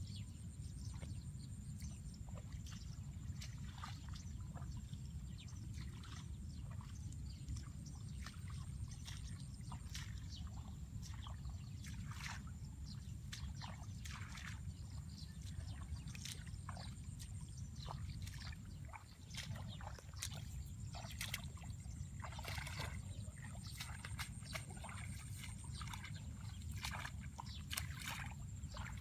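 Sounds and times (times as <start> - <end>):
water splashing and sloshing: 0.3 - 29.0.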